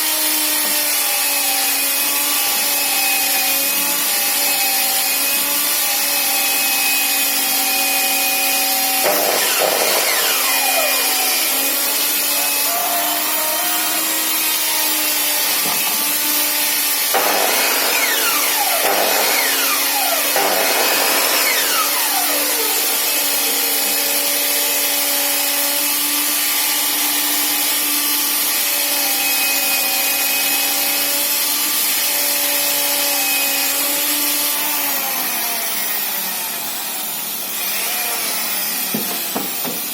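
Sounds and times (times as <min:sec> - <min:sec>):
mitre saw cutting wood: 0:00.0 - 0:39.9.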